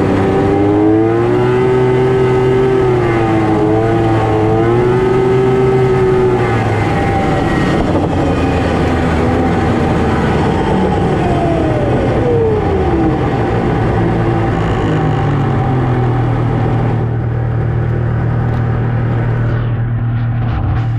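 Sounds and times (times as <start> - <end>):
snowmobile engine running: 0.0 - 20.9.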